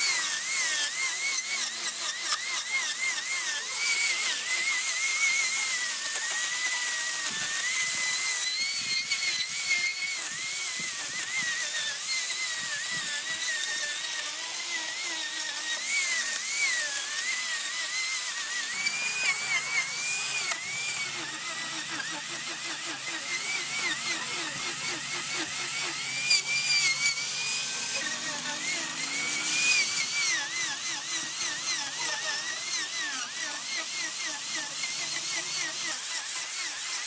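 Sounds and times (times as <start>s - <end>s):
power tool whining on wood: 0.0s - 37.0s.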